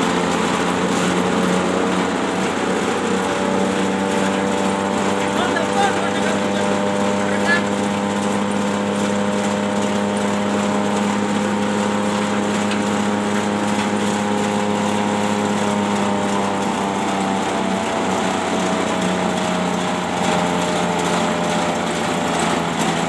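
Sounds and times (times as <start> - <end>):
grass chopper engine running: 0.0 - 23.0.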